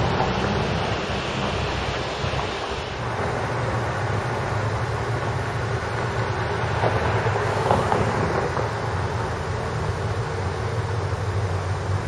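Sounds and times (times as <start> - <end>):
distant traffic rumble: 0.0 - 12.0.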